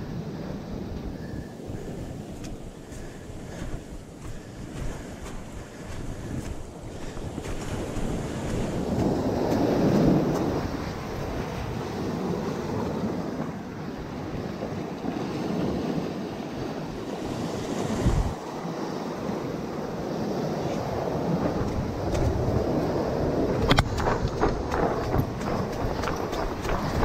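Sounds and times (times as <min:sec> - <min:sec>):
ocean surf over rocks and sand: 0:00.0 - 0:27.0.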